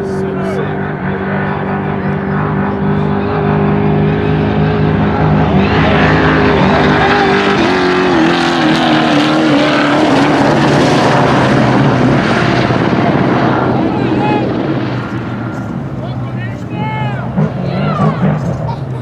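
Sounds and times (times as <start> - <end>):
racing truck engine passing by: 0.0 - 19.0.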